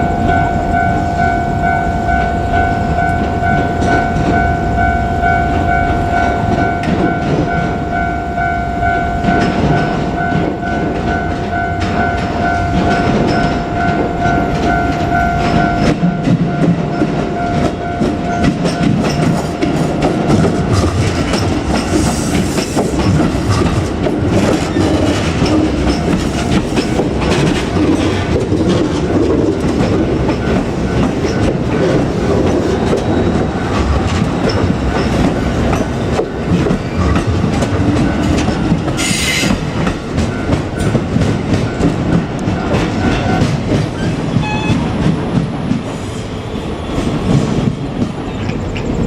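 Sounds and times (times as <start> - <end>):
level-crossing bell ringing: 0.0 - 43.6
train wheels clattering: 0.0 - 49.0.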